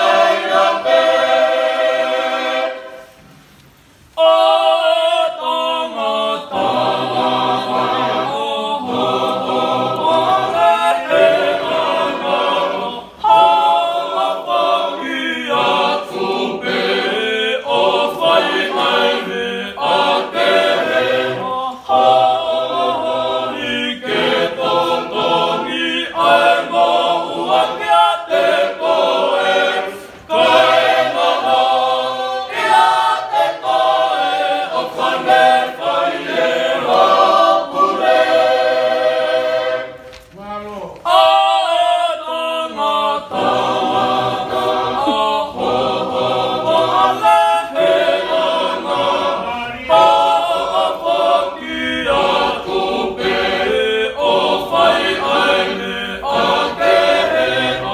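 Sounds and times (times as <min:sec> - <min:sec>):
choir singing a hymn a cappella: 0:00.0 - 0:40.2, 0:41.0 - 0:57.9.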